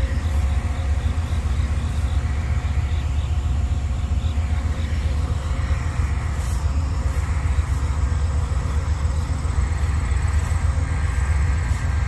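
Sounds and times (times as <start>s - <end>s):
train coaches rolling on rails: 0.0s - 12.0s.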